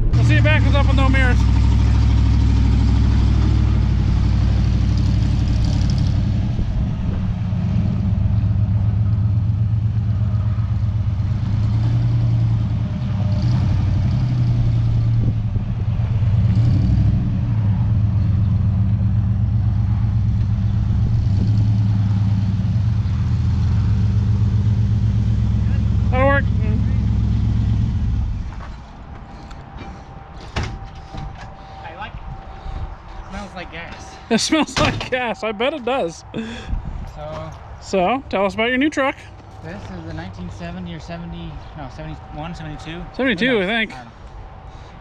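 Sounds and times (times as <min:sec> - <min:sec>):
road noise: 0:00.0 - 0:45.0
vehicle engine drone: 0:00.0 - 0:45.0.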